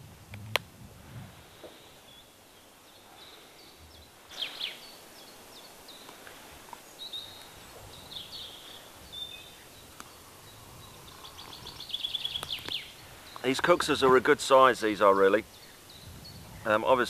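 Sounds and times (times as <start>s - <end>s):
faint steady hiss: 0.0s - 17.0s
songbirds chirping: 1.3s - 17.0s.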